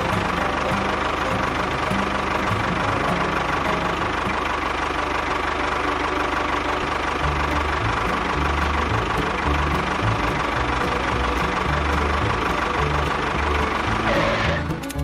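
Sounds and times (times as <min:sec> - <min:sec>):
engine running with fast knocking: 0:00.0 - 0:15.0.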